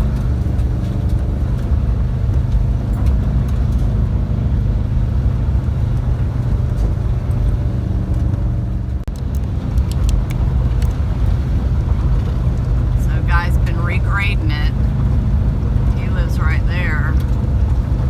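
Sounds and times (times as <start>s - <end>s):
van engine running while driving: 0.0s - 18.0s.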